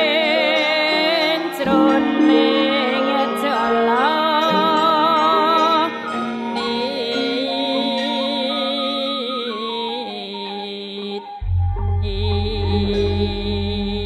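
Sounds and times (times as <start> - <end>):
held accompanying tones: 0.0 - 14.0
wavering vibrato melody: 0.0 - 14.0.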